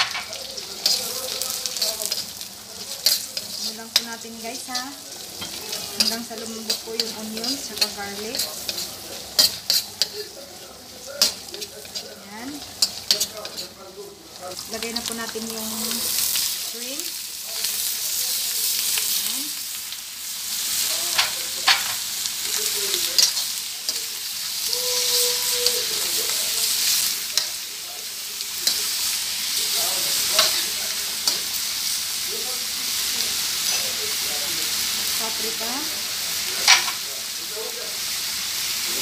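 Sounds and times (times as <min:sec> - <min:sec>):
shrimp sizzling in oil: 0:00.0 - 0:39.0.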